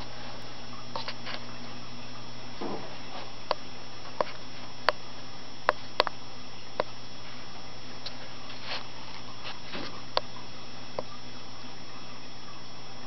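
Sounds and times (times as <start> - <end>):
fish tank humming: 0.0 - 13.0.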